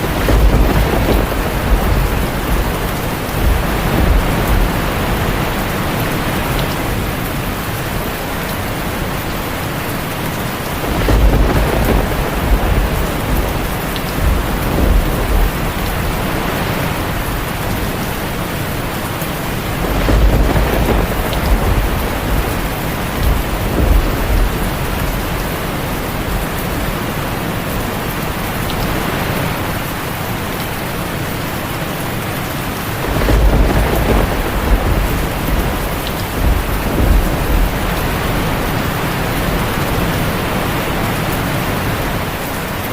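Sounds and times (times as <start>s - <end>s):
thunder rumbling: 0.0s - 30.1s, 32.7s - 42.9s
heavy rain on a tin roof: 0.0s - 42.9s.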